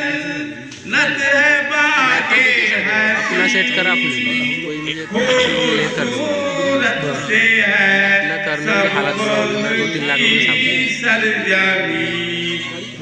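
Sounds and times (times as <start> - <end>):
man chanting devotional song: 0.0 - 13.0.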